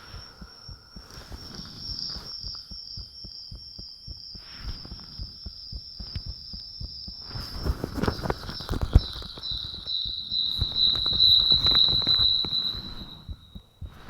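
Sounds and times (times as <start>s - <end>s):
steady high-pitched tone: 0.0s - 7.5s, 9.0s - 14.0s
crackling knocks: 0.0s - 14.0s
heartbeat thumps: 0.0s - 14.0s.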